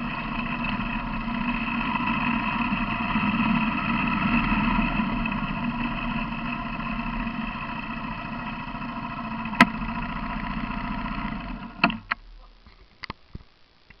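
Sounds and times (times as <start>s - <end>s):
quad bike engine idling: 0.0s - 12.2s.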